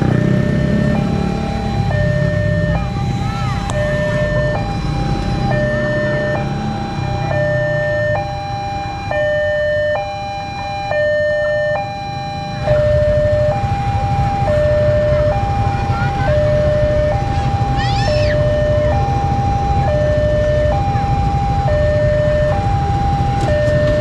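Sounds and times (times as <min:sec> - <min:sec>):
level crossing two-tone alarm: 0:00.0 - 0:24.0.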